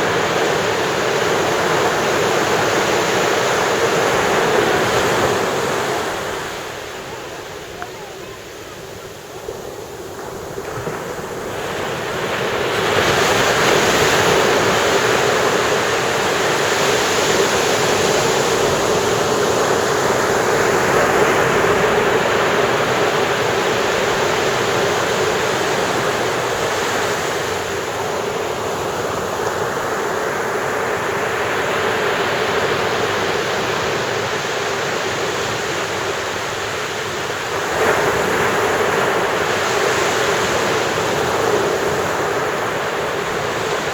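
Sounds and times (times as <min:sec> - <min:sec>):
ocean waves breaking on beach: 0:00.0 - 0:43.9.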